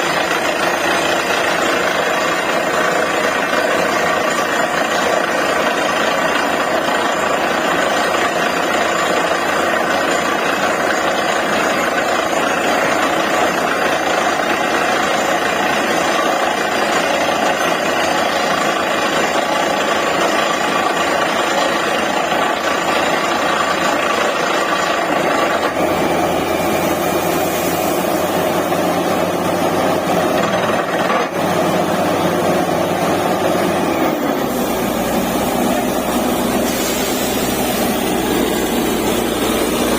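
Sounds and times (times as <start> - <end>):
drilling rig running: 0.0 - 39.9.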